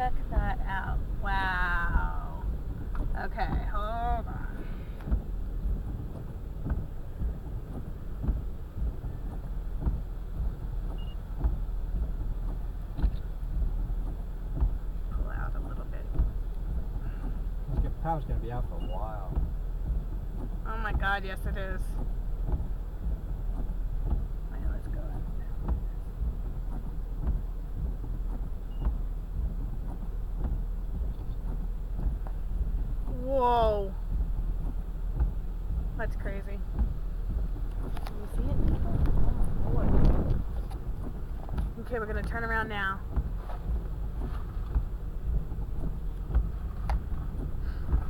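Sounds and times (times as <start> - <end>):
low rumble inside car: 0.0 - 48.0
light knocks and thumps: 0.1 - 48.0.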